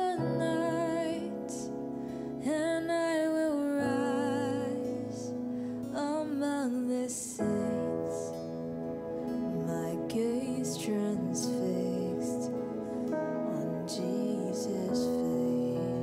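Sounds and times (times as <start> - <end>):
soft keyboard accompaniment: 0.0 - 16.0
woman singing slow worship song: 0.0 - 16.0.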